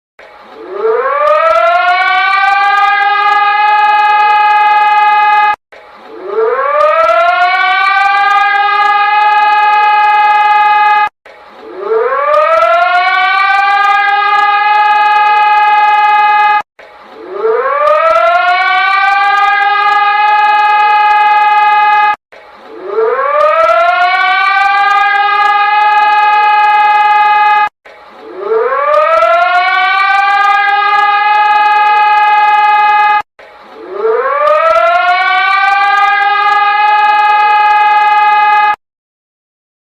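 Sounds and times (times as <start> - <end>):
alarm siren winding up: 0.6 - 11.1, 11.7 - 16.6, 17.2 - 22.2, 22.8 - 27.7, 28.3 - 38.8.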